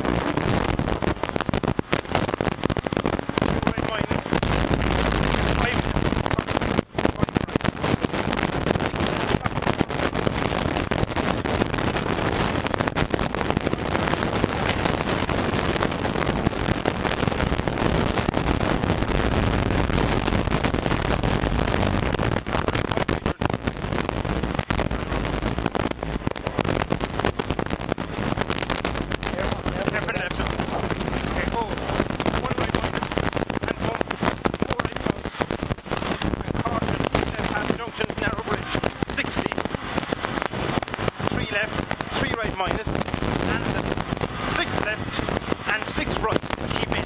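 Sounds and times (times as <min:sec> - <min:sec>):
distortion crackle: 0:00.0 - 0:47.0.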